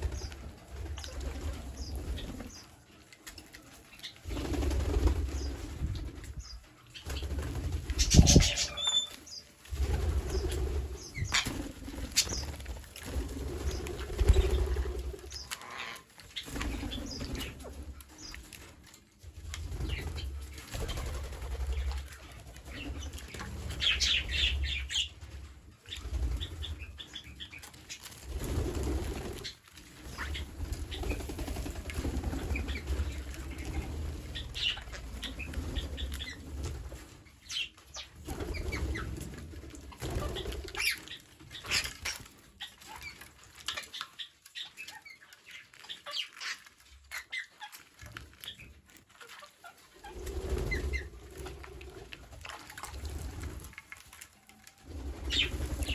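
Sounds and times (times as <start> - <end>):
bird wings flapping: 0.0 - 44.2, 48.0 - 55.9.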